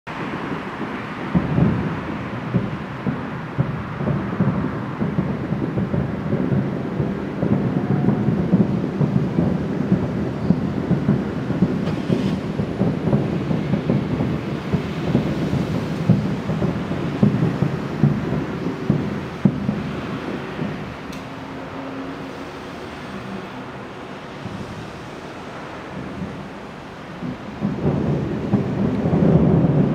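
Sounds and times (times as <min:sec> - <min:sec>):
distant fireworks rumble: 0:00.1 - 0:29.9.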